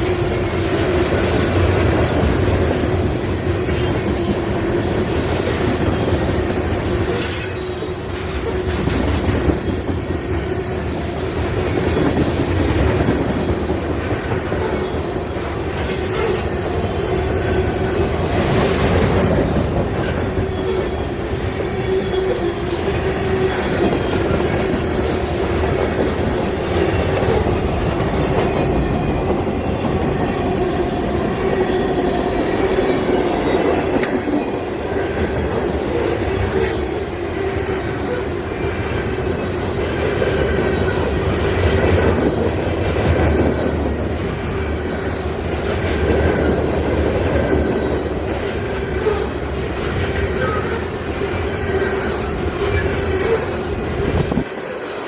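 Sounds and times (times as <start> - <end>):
ringing tone of wheels on rail: 0.0 - 55.0
train wheels clicking over rail joints: 0.0 - 55.0.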